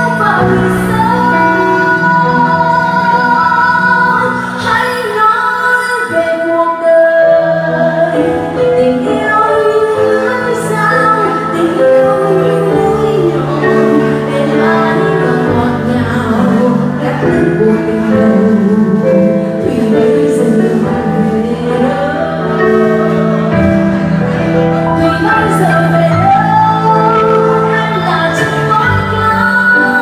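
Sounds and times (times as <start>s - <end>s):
woman singing into microphone: 0.0s - 24.0s, 24.6s - 30.0s
instrumental accompaniment: 0.0s - 30.0s.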